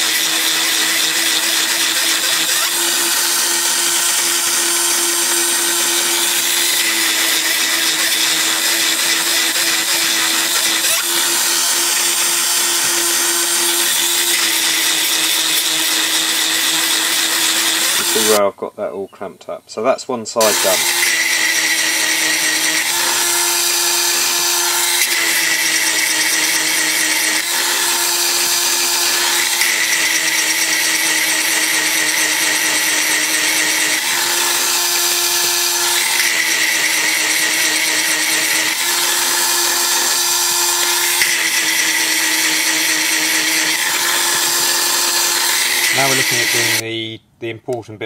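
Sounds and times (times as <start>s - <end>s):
chain grinder motor whining: 0.0s - 18.4s, 20.4s - 46.8s
grinding stone sharpening chain: 0.0s - 18.4s, 20.4s - 46.8s.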